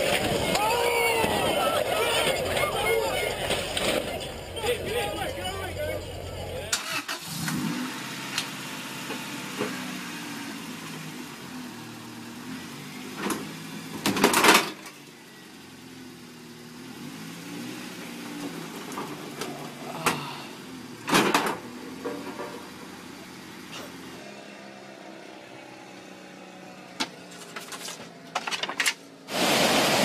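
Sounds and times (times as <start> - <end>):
car engine idling: 0.0 - 29.2.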